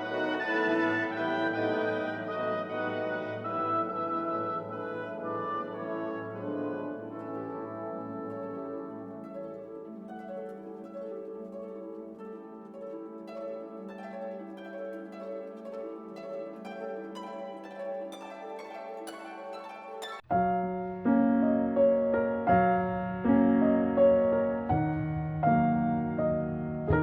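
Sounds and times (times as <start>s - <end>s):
gentle orchestral music with harp: 0.0s - 27.0s
piano music: 0.0s - 27.0s.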